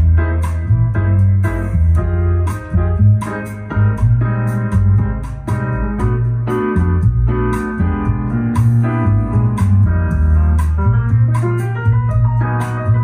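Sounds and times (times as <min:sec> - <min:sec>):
music with bass and keyboard: 0:00.0 - 0:13.0.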